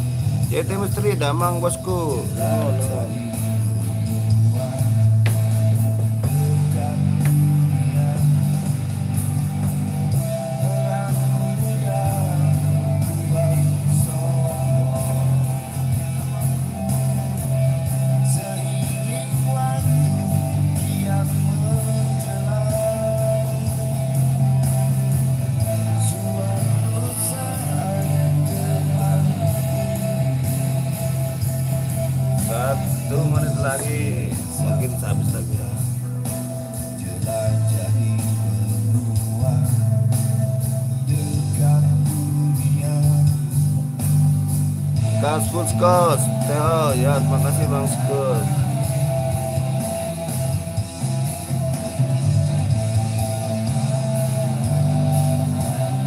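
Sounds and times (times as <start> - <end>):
rock song through guitar amplifier: 0.0 - 56.0.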